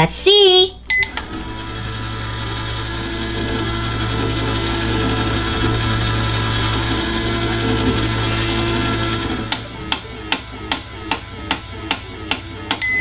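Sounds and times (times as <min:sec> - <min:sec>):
microwave oven humming and whirring: 0:00.0 - 0:13.0.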